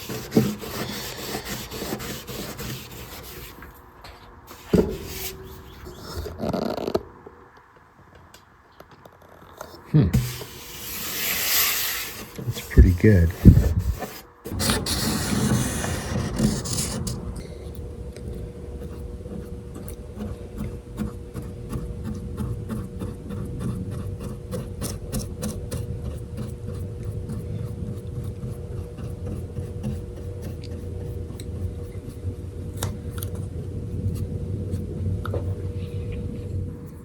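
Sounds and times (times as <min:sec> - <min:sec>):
steady low hum: 0:00.0 - 0:06.4, 0:09.9 - 0:37.0.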